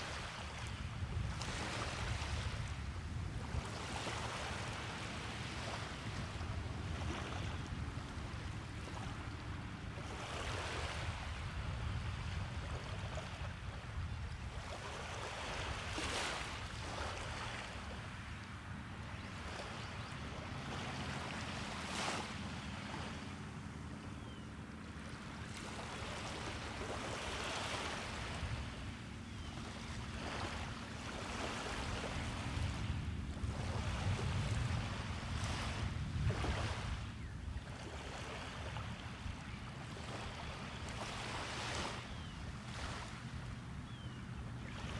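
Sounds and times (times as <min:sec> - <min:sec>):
small waves breaking on beach: 0:00.0 - 0:44.9
wind rumble on microphone: 0:00.0 - 0:44.9.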